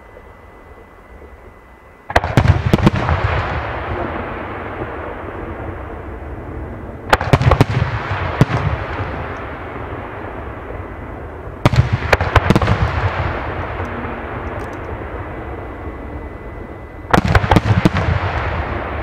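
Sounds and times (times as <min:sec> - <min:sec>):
rumble: 0:00.0 - 0:19.0
fireworks bangs: 0:02.1 - 0:19.0.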